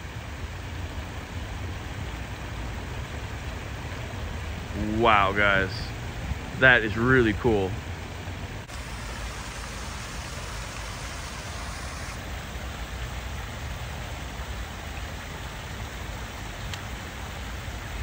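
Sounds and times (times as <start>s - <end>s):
waterfall rushing: 3.2s - 18.0s.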